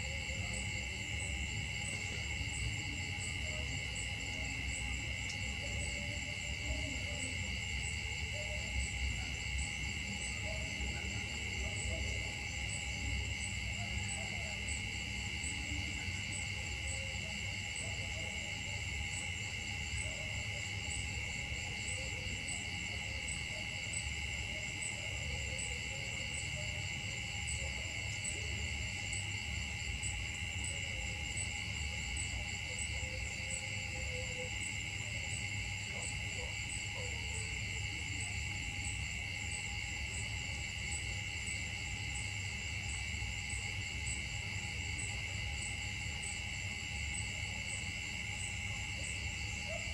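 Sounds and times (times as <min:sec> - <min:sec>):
insects chorus drone: 0:00.0 - 0:49.9.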